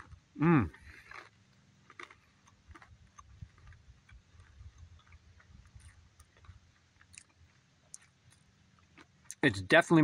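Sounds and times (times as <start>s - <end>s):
crunchy chewing: 0.0s - 9.6s.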